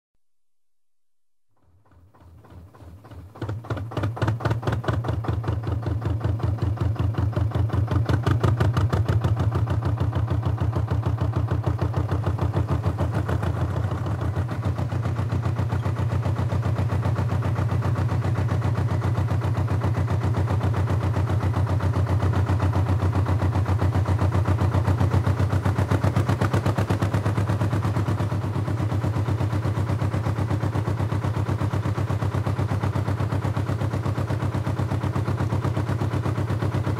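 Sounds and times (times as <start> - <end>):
engine running: 1.6 - 36.9.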